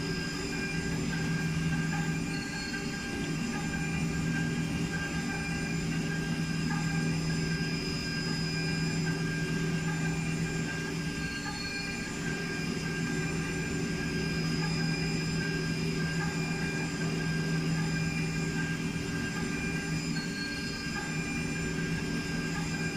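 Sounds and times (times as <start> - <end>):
milling machine spindle whine: 0.0 - 22.9.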